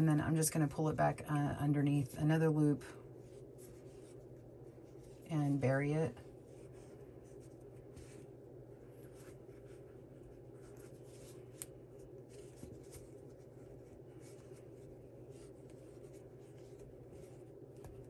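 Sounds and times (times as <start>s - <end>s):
faint rustling of yarn: 0.0s - 18.0s
low steady hum: 0.0s - 18.0s.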